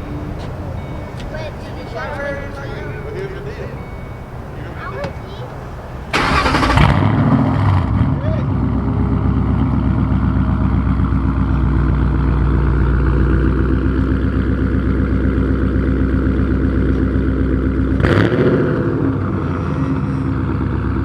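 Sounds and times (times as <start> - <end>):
car engine idling choppy: 0.0 - 21.0.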